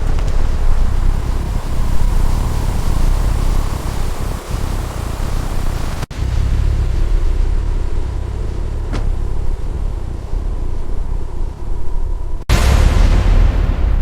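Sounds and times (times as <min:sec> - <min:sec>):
car engine rumbling: 0:00.0 - 0:12.6.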